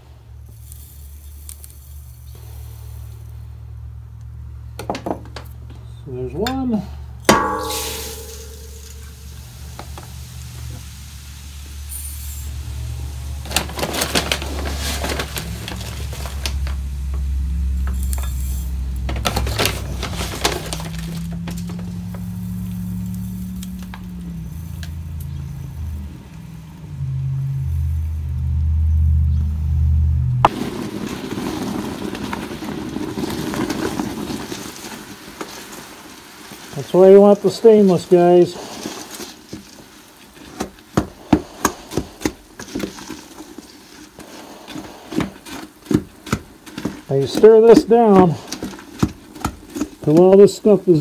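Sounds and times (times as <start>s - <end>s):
fizzing hiss in pot: 0.0s - 4.1s, 7.5s - 26.0s, 30.5s - 51.0s.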